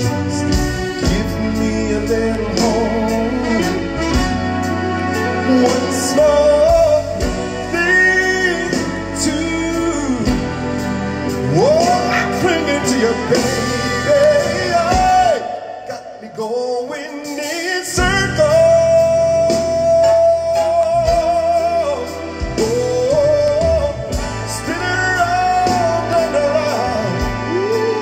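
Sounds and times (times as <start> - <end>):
band playing: 0.0 - 28.0
man singing: 0.0 - 28.0.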